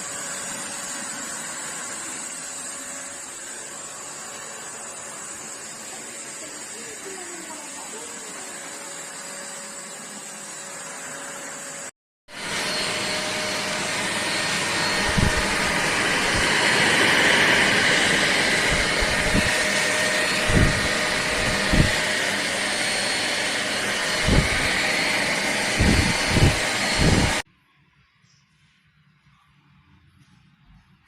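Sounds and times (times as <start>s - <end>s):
handheld vacuum cleaner running: 0.0s - 27.5s.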